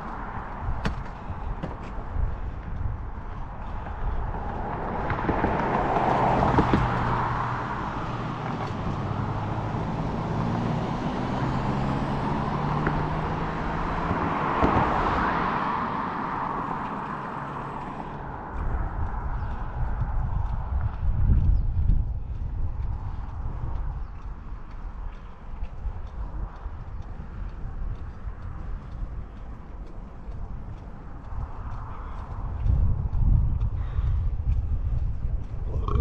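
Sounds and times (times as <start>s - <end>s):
engine hum: 0.0s - 36.0s
vehicles passing: 0.0s - 36.0s
wind on microphone: 0.0s - 36.0s.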